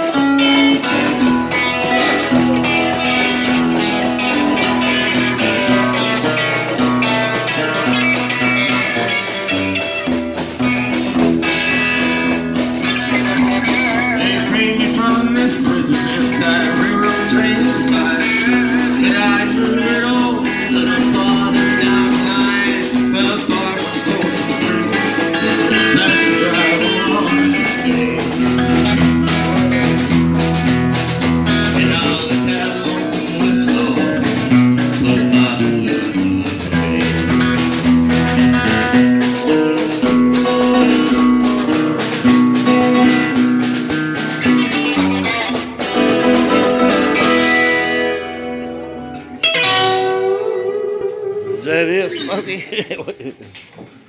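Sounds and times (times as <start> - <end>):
steady drum beat: 0.0 - 49.7
strummed acoustic guitar: 0.0 - 53.2
electric guitar: 0.0 - 54.0.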